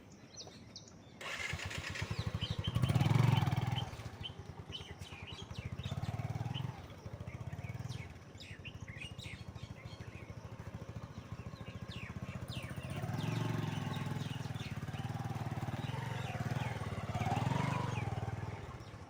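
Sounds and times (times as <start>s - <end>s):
birds chirping: 0.0s - 19.0s
engine throbbing: 1.2s - 19.0s.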